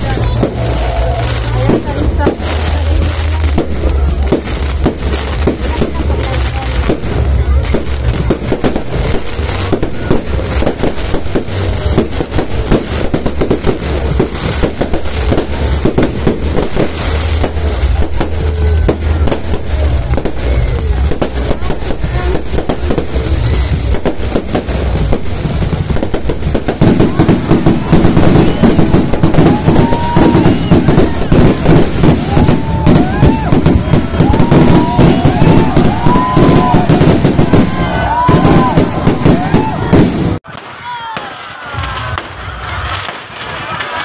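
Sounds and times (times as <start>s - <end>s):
fireworks crackling and banging: 0.0s - 44.0s.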